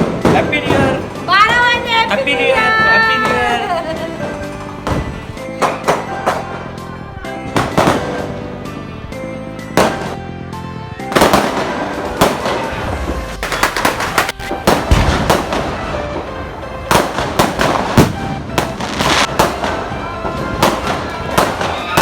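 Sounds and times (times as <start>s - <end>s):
fireworks and firecrackers banging: 0.0s - 22.0s
music playing: 0.0s - 22.0s.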